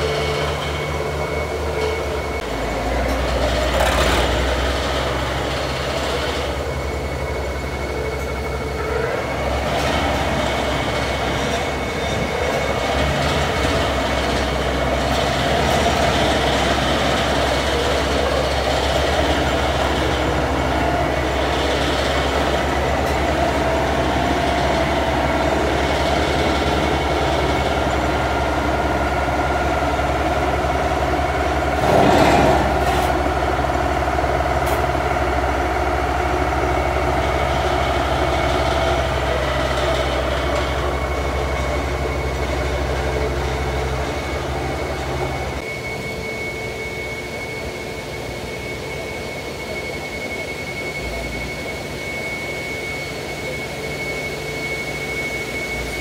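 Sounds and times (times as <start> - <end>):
vibratory pile driver humming: 0.0 - 45.7.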